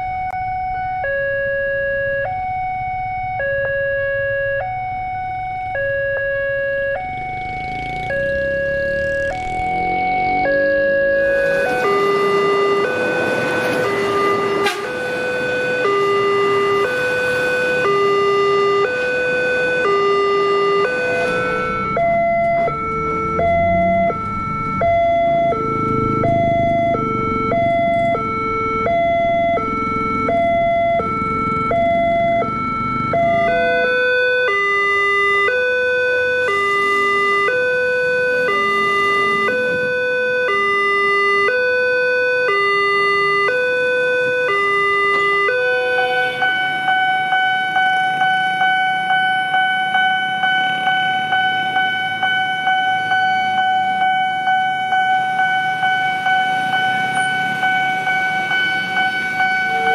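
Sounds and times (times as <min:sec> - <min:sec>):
level crossing alarm: 0:00.0 - 0:59.9.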